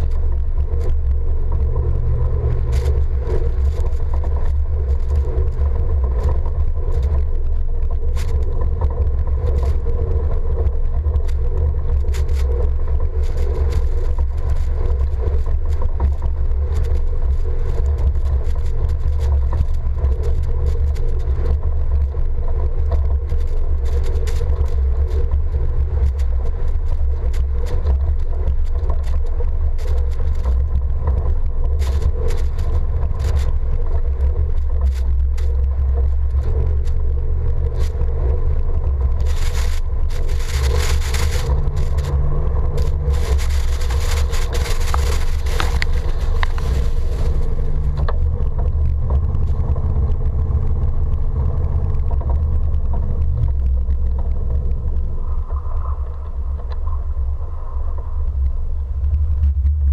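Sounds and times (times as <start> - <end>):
snow ticking against camera: 0.0 - 57.2
truck engine rumble: 0.0 - 59.9.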